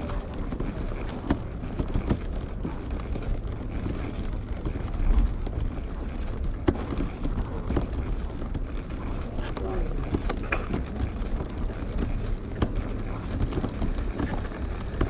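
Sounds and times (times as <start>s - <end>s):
light clicks and knocks: 0.0s - 15.0s
wind rumble on microphone: 0.0s - 15.0s.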